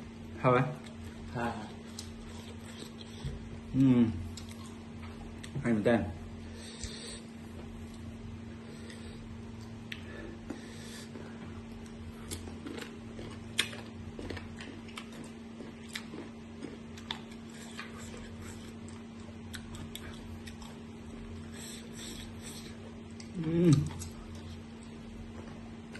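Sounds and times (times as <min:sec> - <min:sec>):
chewing crisp fruit: 0:00.7 - 0:05.6, 0:06.7 - 0:25.9.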